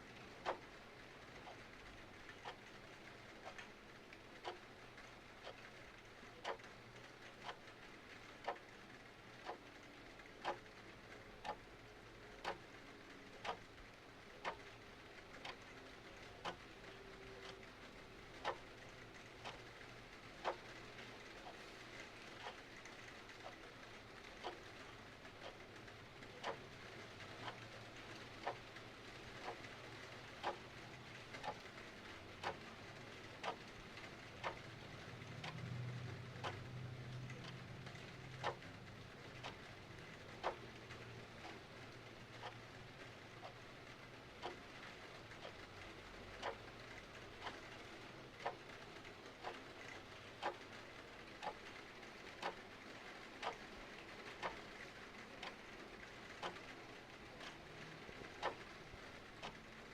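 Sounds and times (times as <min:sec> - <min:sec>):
clock ticking: 0:00.2 - 0:59.9.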